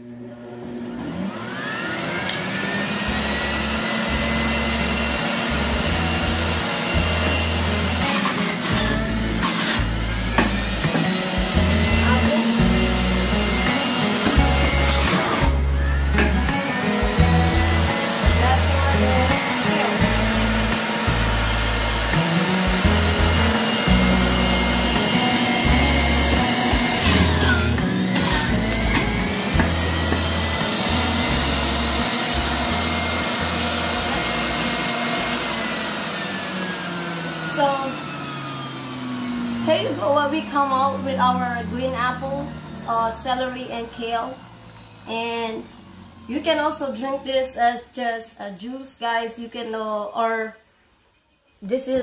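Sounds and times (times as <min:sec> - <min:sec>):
juicer grinding greens: 0:00.0 - 0:47.3
juicer motor whine: 0:00.0 - 0:47.3.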